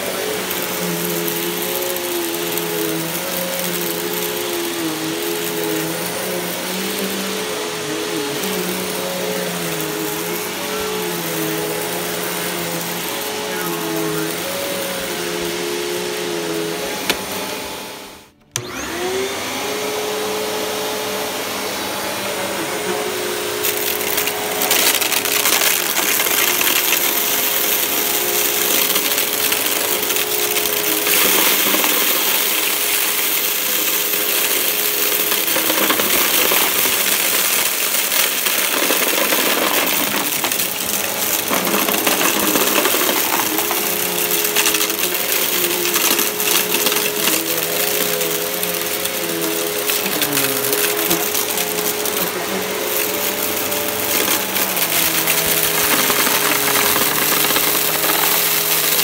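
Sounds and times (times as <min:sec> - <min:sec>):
gritty crackling of sucked debris: 0:00.0 - 0:16.2, 0:23.3 - 0:59.0
vacuum cleaner running: 0:00.0 - 0:59.0.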